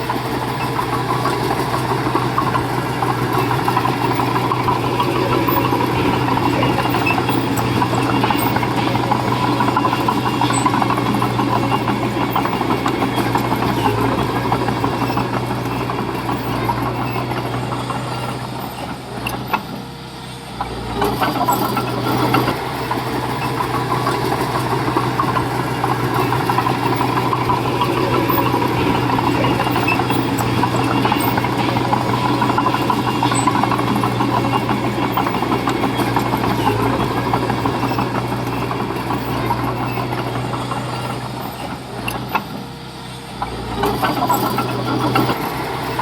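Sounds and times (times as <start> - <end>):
diesel engine under load: 0.0 - 46.0.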